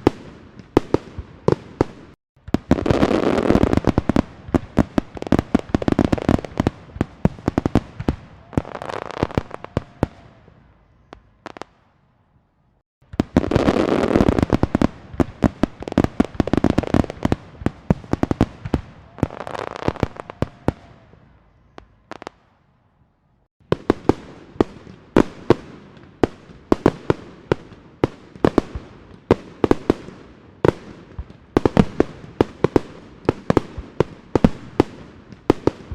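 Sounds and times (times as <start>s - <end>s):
fireworks bangs and crackling: 0.0s - 12.0s, 13.0s - 22.7s, 23.6s - 35.9s.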